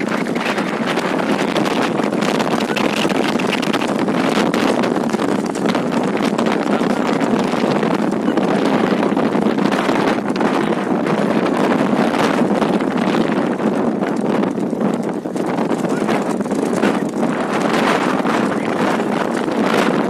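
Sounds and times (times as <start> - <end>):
moving vehicle running noise: 0.0 - 20.0
wind buffeting microphone: 0.0 - 20.0.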